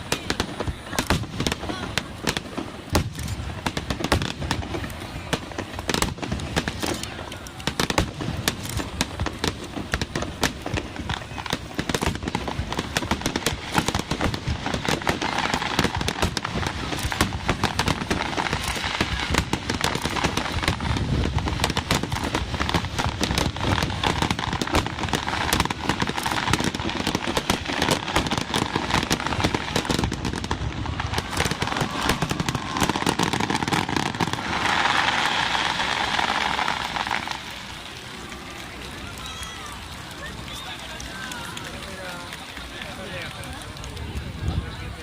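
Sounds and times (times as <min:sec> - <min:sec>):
fireworks bangs and crackles: 0:00.0 - 0:45.0
fireworks hiss: 0:00.0 - 0:45.0.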